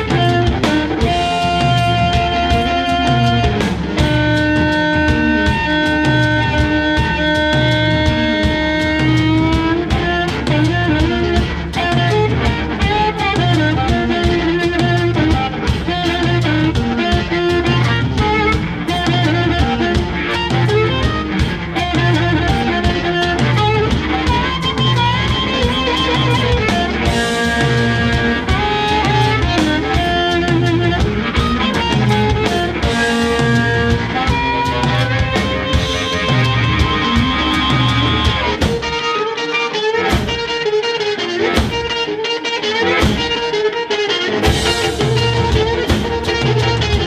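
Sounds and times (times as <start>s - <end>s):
amplified harmonica: 0.0s - 47.0s
drum kit: 0.0s - 47.0s
electric guitar: 0.0s - 47.0s.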